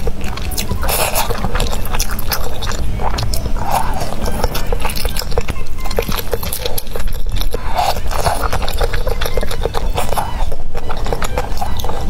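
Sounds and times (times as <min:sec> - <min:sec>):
chewing and slurping noodles: 0:00.0 - 0:12.0
wet mouth clicks and smacks: 0:00.0 - 0:12.0.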